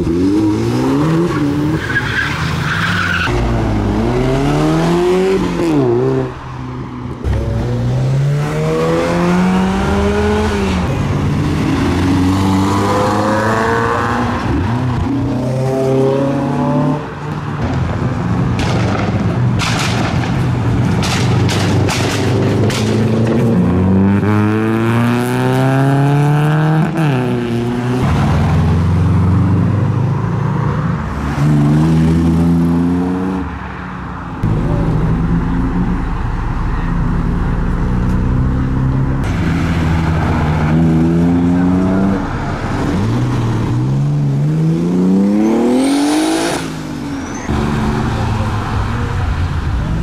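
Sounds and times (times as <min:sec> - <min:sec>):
car engines revving hard: 0:00.0 - 0:50.0.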